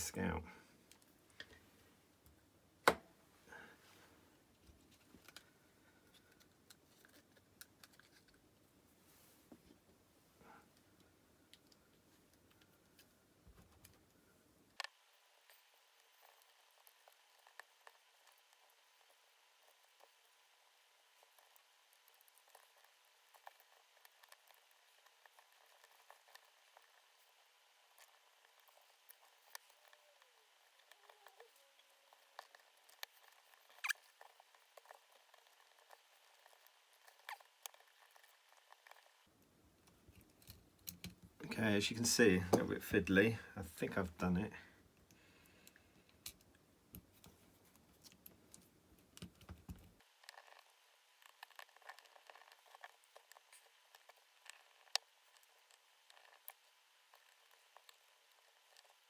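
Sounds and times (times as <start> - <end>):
faint clicks of small parts: 0.9 - 2.4, 4.5 - 8.6, 10.7 - 59.0.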